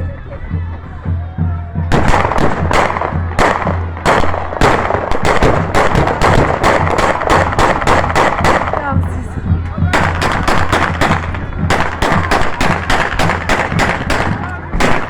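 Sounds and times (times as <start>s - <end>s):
loud celebratory bangs: 0.0s - 15.0s
music with low drum beat: 0.0s - 15.0s.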